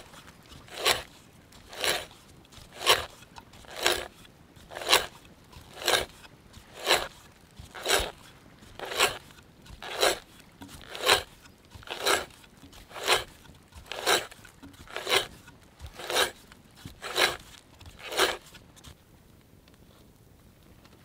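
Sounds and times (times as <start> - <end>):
auger bit boring into wood: 0.0 - 18.6.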